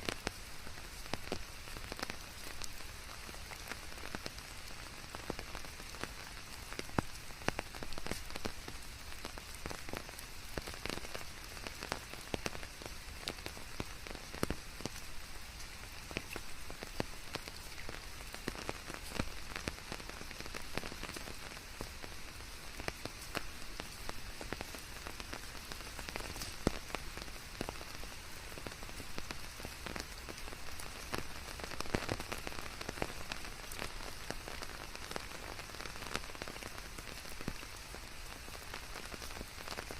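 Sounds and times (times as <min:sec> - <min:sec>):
rain falling: 0:00.0 - 0:39.9
raindrops pattering on surfaces: 0:00.0 - 0:39.9.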